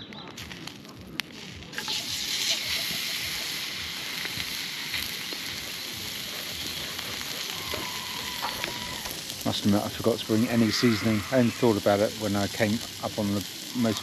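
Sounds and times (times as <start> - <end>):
steak sizzling on a grill: 0.4 - 14.0.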